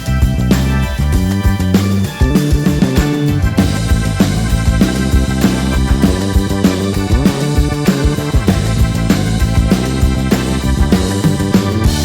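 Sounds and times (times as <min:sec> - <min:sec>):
bass: 0:00.0 - 0:12.0
guitar: 0:00.0 - 0:12.0
keyboards: 0:00.0 - 0:12.0
steady drum beat: 0:00.0 - 0:12.0.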